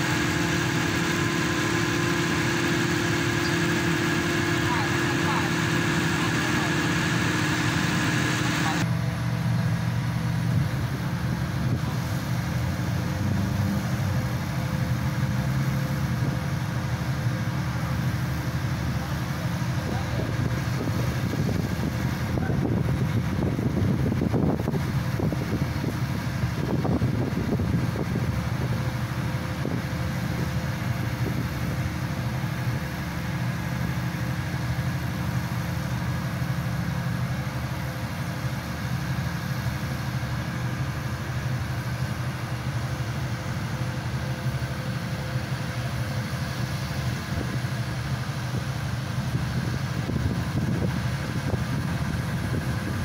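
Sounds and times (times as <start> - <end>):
pile driver engine running: 0.0 - 53.0.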